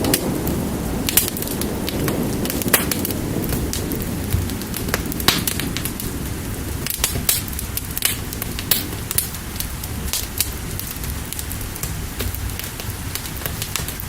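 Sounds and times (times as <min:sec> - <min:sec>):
fire crackling and popping: 0:00.0 - 0:14.0
rain rushing: 0:00.0 - 0:14.0.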